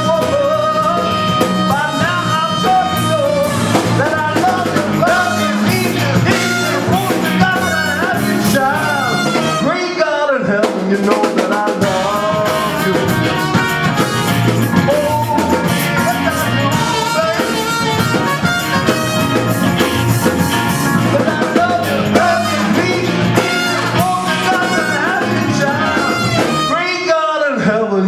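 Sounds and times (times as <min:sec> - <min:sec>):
live rock band playing: 0:00.0 - 0:27.0
guitar: 0:00.0 - 0:27.3
person singing: 0:00.0 - 0:28.0.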